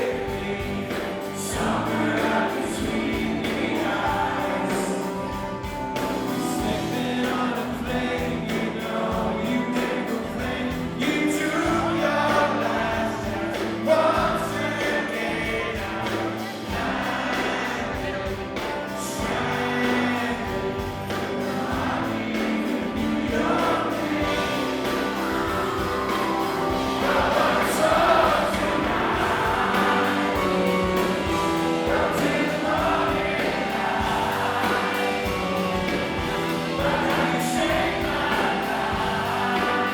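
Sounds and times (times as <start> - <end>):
audience singing along: 0.0 - 39.9
rock band playing live: 0.0 - 39.9.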